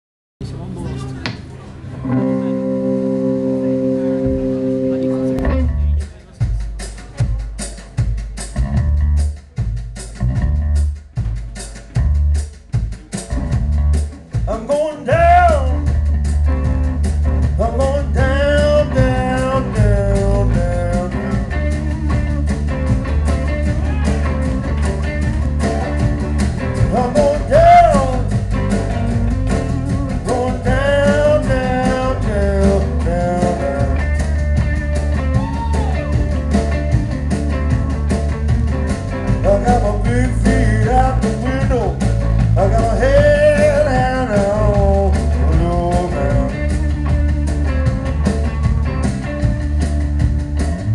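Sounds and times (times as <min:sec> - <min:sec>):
drum kit: 0:00.4 - 0:50.9
electric bass: 0:00.4 - 0:50.9
electric guitar lead line: 0:00.5 - 0:06.0, 0:15.1 - 0:50.9.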